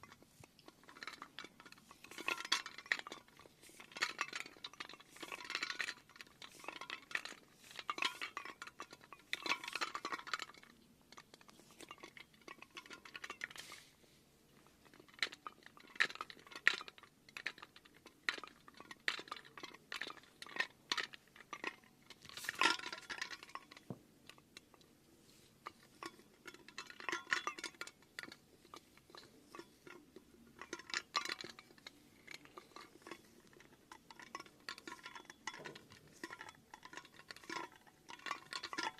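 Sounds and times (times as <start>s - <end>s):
small hard objects clinking: 0.0s - 14.0s, 14.6s - 38.9s.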